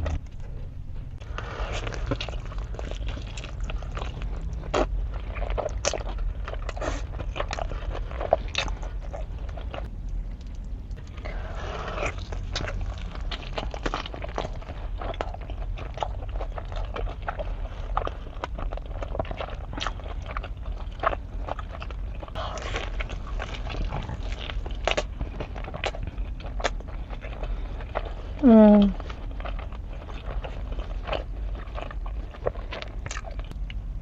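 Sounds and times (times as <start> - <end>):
crunchy chewing: 0.0 - 33.8
steady low hum: 0.0 - 34.0.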